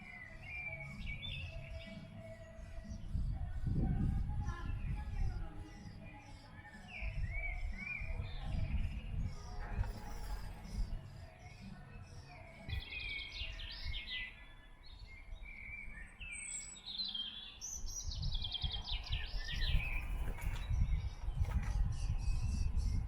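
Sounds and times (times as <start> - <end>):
songbirds chirping in trills: 0.0 - 23.0.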